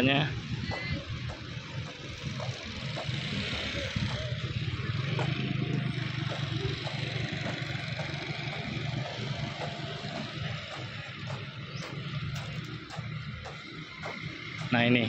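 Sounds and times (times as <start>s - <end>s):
bus engine humming: 0.0s - 15.0s
traffic noise: 0.0s - 15.0s.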